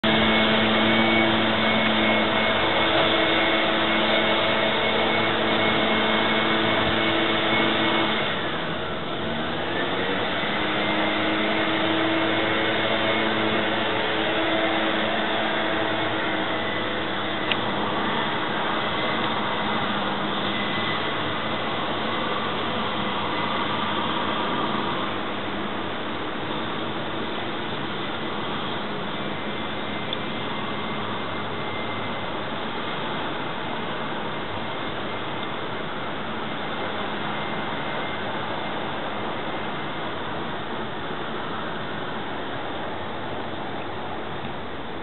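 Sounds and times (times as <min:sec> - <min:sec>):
machine whirring and humming: 0:00.0 - 0:45.0.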